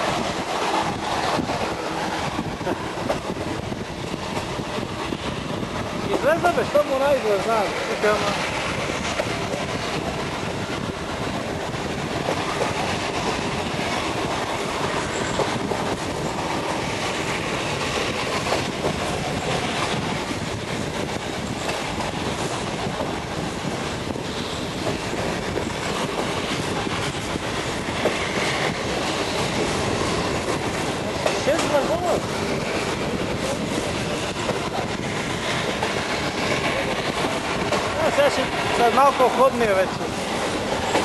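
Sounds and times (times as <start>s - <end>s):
steam train rumbling: 0.0s - 41.0s.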